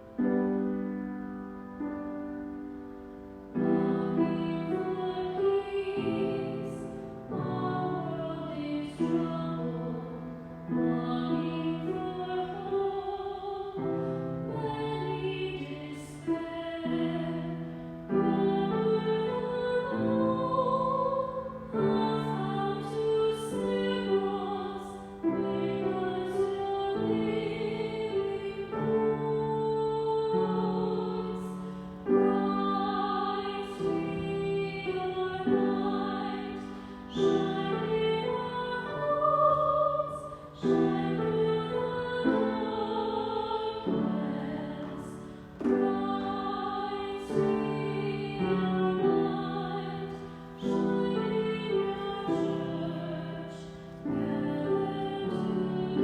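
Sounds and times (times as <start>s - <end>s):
person singing a slow hymn: 0.0s - 56.0s.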